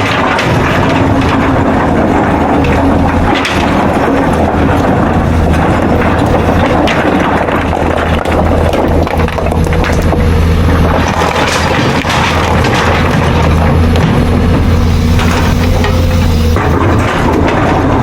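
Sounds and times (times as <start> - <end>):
excavator diesel engine under load: 0.0 - 18.0
knocks and clatter: 0.0 - 18.0.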